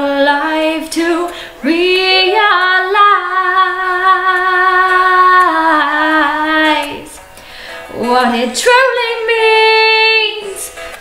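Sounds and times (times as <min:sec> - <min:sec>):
woman singing unaccompanied: 0:00.0 - 0:07.2, 0:07.9 - 0:10.9.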